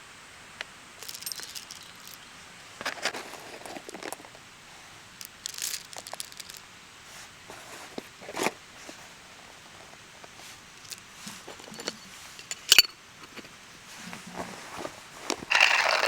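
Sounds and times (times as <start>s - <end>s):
rustling and crinkling handling: 1.0s - 16.0s.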